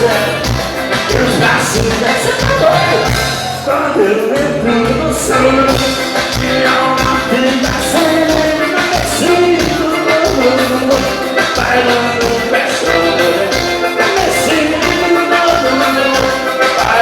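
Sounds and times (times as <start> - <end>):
person singing: 0.0 - 17.0
upbeat music with steady beat: 0.0 - 17.0.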